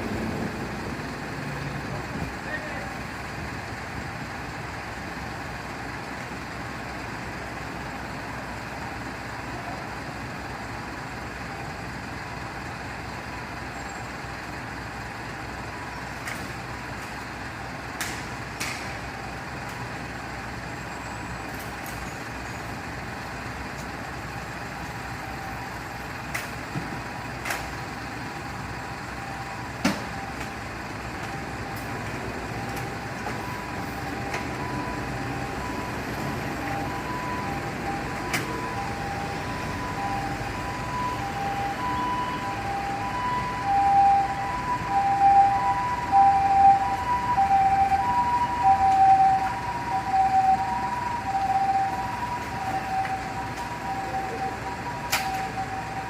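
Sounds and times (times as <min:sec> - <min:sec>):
fire truck engine idling: 0:00.0 - 0:56.0.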